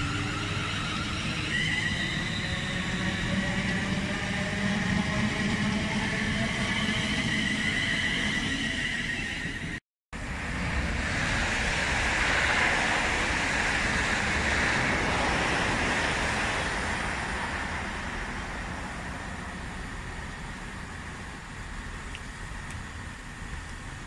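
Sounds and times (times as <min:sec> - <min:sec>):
diesel train engines idling: 0:00.0 - 0:24.0.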